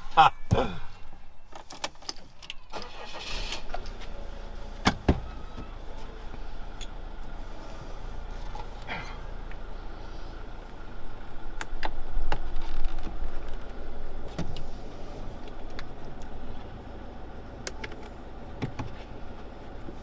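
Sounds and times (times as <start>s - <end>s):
steady low rumble: 3.5s - 20.0s.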